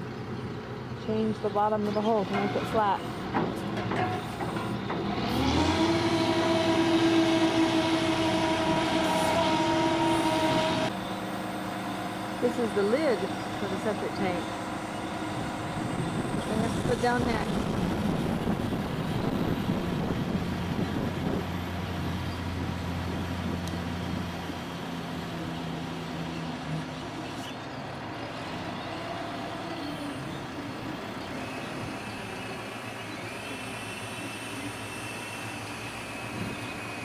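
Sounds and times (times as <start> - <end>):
construction machine engine humming: 0.0 - 37.0
construction site noise: 0.0 - 37.0.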